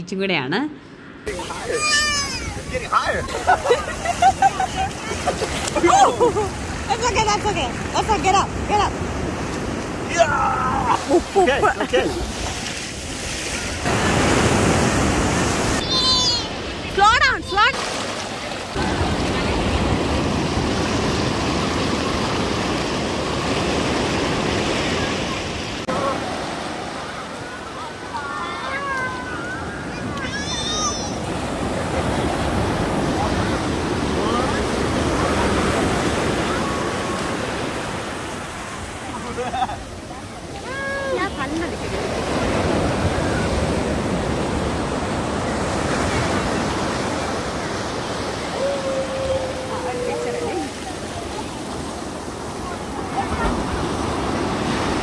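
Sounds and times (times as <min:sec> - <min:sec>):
surf washing in: 0:01.0 - 0:55.0
sea waves breaking on shore: 0:01.2 - 0:55.0.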